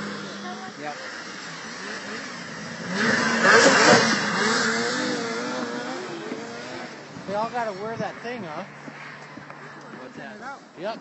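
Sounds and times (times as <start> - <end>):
snowmobile passing at speed: 0.0 - 11.0.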